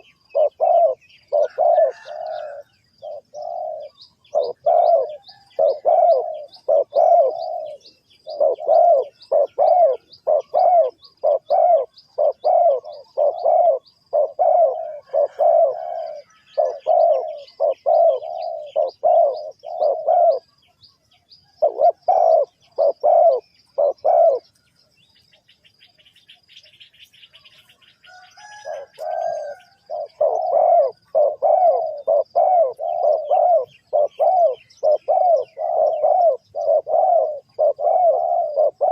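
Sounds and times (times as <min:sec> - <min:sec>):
dove cooing: 0:00.0 - 0:20.7, 0:21.4 - 0:24.6, 0:26.2 - 0:38.9.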